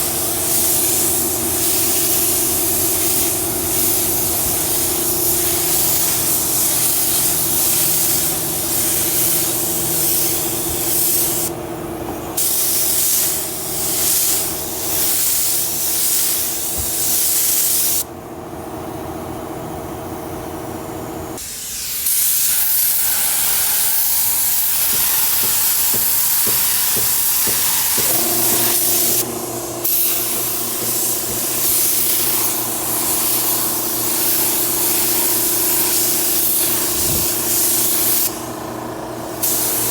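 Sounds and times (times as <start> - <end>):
paint spray gun hissing: 0.0 - 11.6, 12.3 - 18.1, 21.4 - 39.9.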